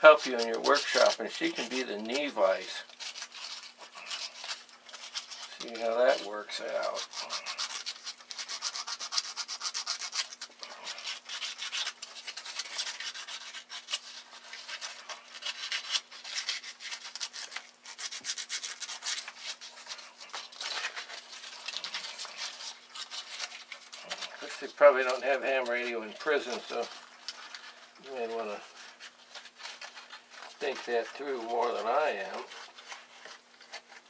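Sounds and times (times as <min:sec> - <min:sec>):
emery cloth scratching metal coil: 0:00.0 - 0:34.0.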